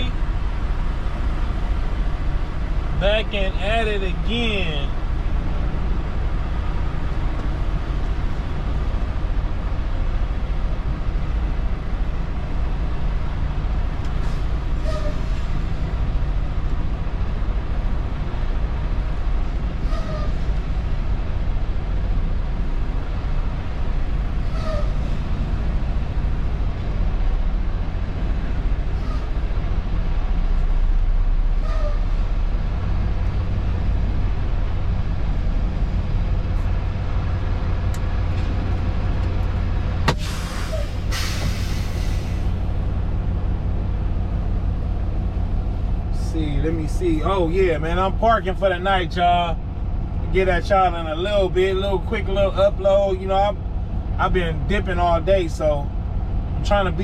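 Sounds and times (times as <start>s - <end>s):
truck diesel engine rumbling: 0.0s - 57.0s.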